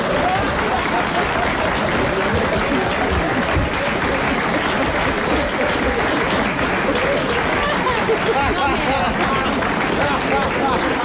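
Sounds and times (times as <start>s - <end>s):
audience applauding: 0.0s - 11.0s
audience laughing: 0.0s - 11.0s.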